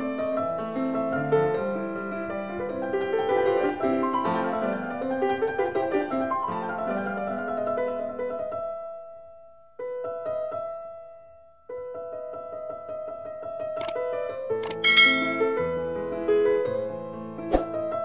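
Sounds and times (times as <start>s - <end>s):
piano music: 0.0s - 13.6s, 14.6s - 18.0s.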